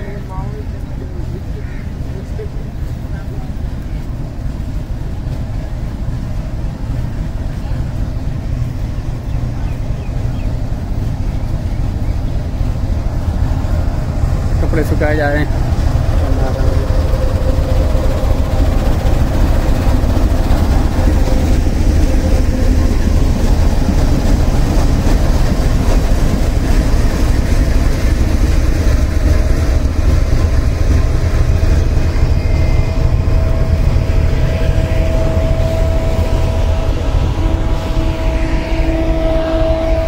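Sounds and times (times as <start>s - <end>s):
locomotive engine rumbling: 0.0s - 40.0s
engine whine: 2.8s - 40.0s.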